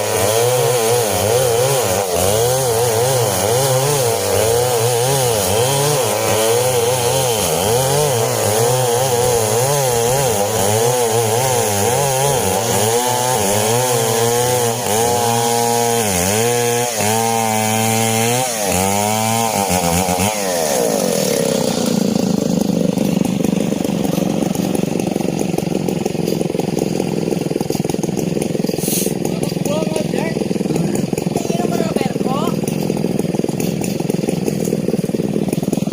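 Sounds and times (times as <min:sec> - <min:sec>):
chainsaws cutting logs: 0:00.0 - 0:35.9.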